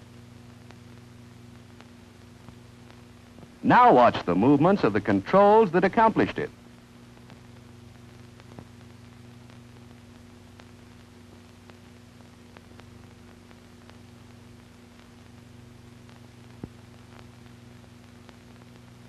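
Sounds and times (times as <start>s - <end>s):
small clicks and crackles: 0.0s - 3.6s, 6.6s - 19.0s
faint hum: 0.0s - 19.0s
film soundtrack hiss: 0.0s - 19.0s.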